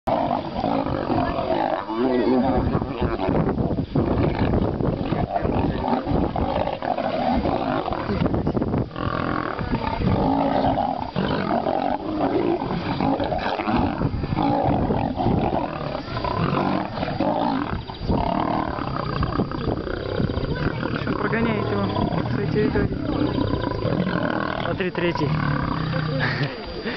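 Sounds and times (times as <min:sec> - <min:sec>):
lions snarling and roaring: 0:00.1 - 0:26.3.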